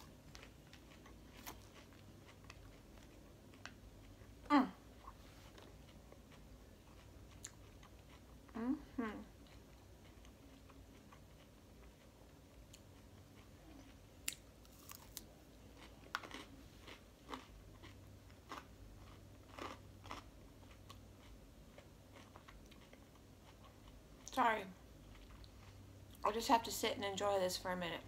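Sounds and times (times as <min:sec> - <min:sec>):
faint crunchy chewing: 0:00.0 - 0:26.3.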